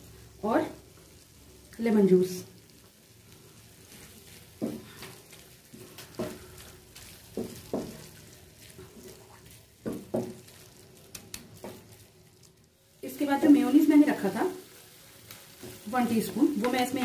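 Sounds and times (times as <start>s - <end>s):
faint frying sizzle: 0.0s - 17.0s.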